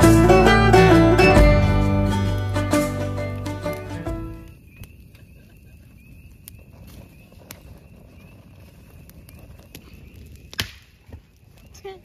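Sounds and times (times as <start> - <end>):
fire crackles and pops: 0.0 - 12.0
campfire flame rushing: 1.8 - 11.8.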